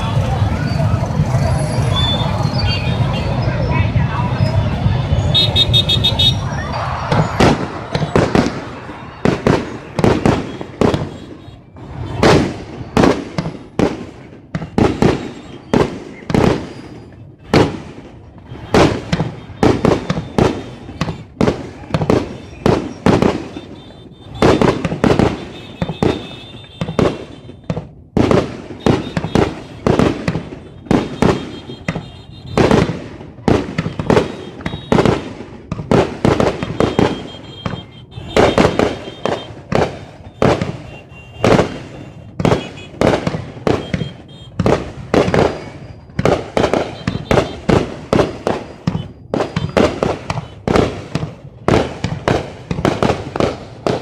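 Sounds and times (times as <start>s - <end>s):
fireworks bursting with echo: 0.0s - 54.0s.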